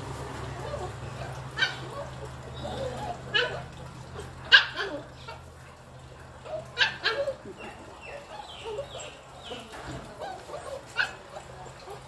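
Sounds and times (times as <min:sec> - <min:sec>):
puppy whining: 0:00.4 - 0:05.6, 0:06.4 - 0:12.0
puppy yelping: 0:00.5 - 0:05.5, 0:06.4 - 0:12.0.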